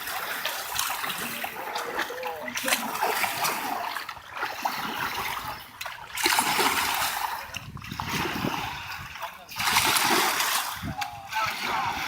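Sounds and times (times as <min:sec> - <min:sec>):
kayak paddle splashing water: 0:00.0 - 0:12.0.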